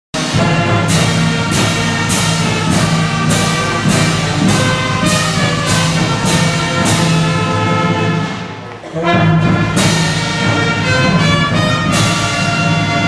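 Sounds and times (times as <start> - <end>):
orchestral music with brass: 0.2 - 13.0
steady percussive beat: 0.2 - 13.0.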